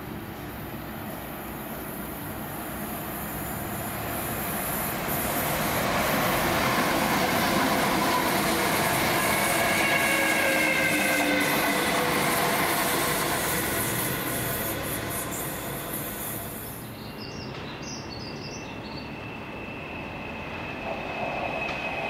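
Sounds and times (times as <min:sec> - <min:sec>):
train running noise: 0:00.0 - 0:17.8, 0:18.7 - 0:22.0.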